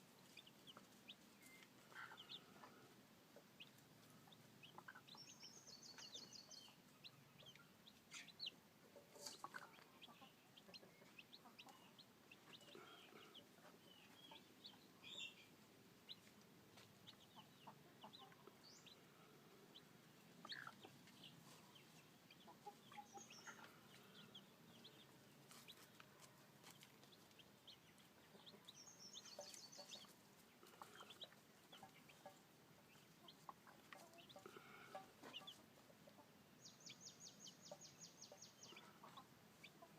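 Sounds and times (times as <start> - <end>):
chicks peeping: 0.2 - 39.9
hen clucking: 0.3 - 15.4, 16.1 - 26.2, 26.8 - 39.9.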